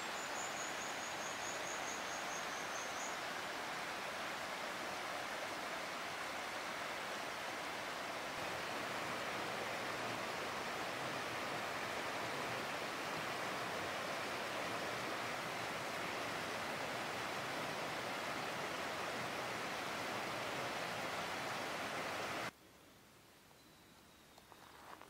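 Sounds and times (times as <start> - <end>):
stream running over rocks: 0.0 - 22.5.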